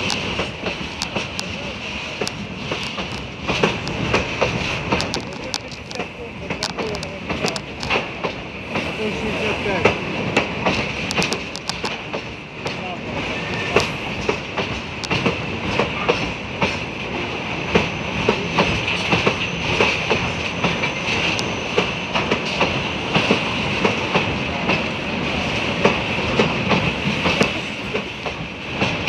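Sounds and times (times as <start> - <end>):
wheels clattering over rail joints: 0.0 - 29.0.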